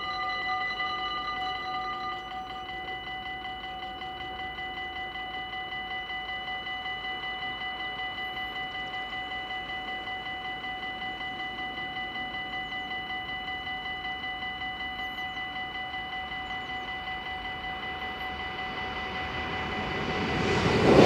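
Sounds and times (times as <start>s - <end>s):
railroad crossing bell ringing: 0.0s - 21.0s.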